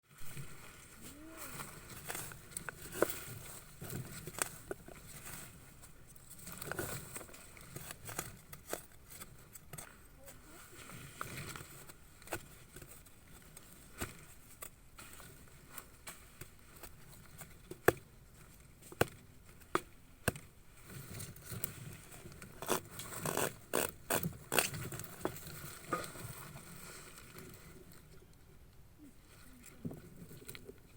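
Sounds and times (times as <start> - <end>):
soil patters and crackling: 0.1 - 30.9.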